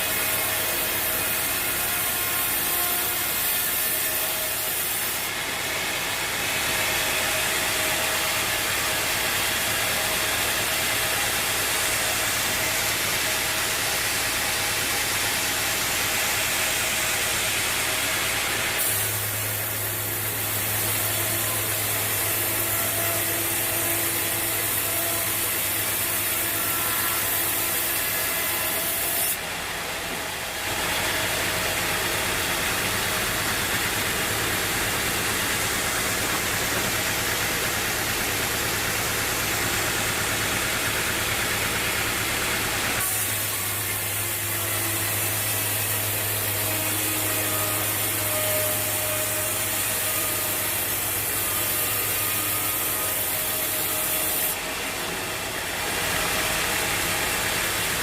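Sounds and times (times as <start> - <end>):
bandsaw blade cutting wood: 0.0 - 58.0
mill engine running: 4.7 - 53.1, 54.6 - 58.0.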